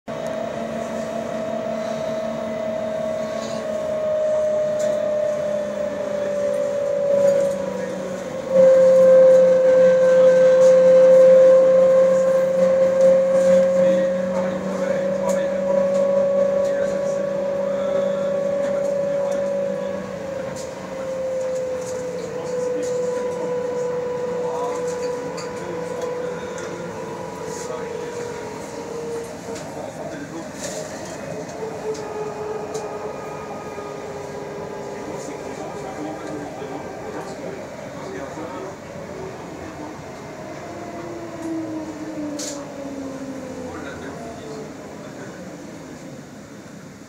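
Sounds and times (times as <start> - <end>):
tram running hum: 0.1 - 47.0.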